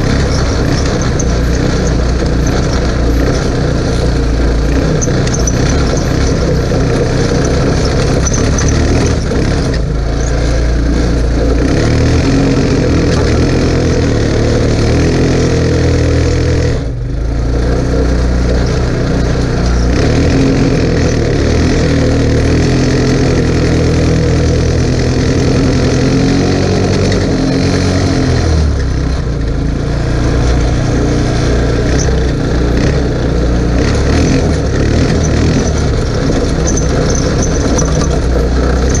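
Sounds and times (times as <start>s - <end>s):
quad bike engine revving: 0.0s - 39.0s.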